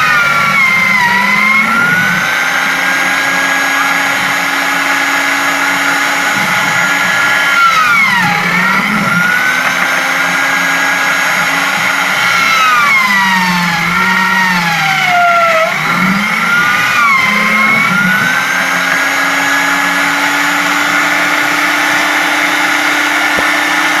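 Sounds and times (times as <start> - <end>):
drill press motor running: 0.0 - 24.0.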